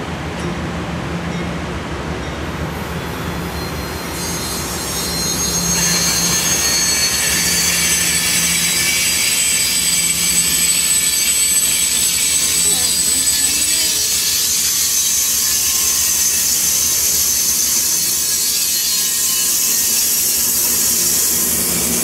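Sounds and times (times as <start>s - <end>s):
passenger coaches rolling past: 0.0s - 22.0s
metallic squeal of train wheels: 2.2s - 22.0s.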